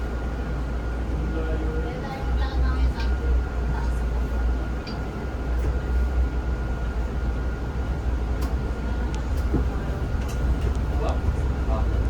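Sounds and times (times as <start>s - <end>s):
bus cabin low rumble: 0.0s - 12.0s.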